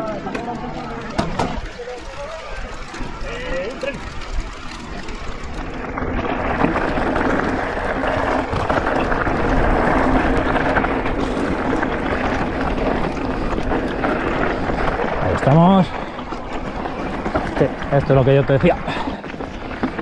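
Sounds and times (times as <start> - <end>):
bike tyre noise on dirt: 0.0 - 20.0.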